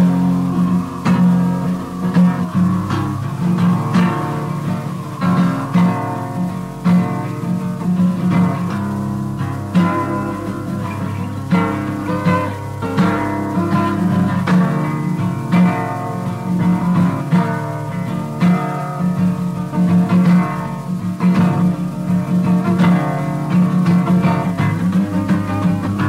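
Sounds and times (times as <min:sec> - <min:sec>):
acoustic guitar plucked notes: 0:00.0 - 0:26.0.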